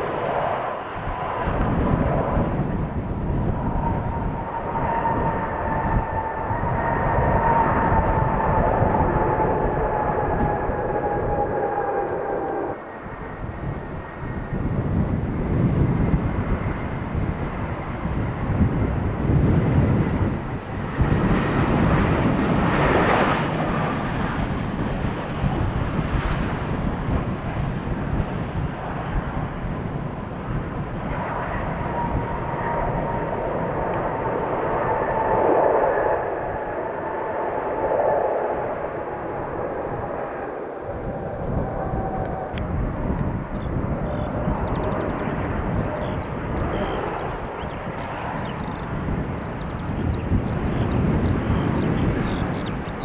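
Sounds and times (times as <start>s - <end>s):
jet airliner engines rumbling: 0.0s - 53.0s
steady engine whine: 0.0s - 53.0s.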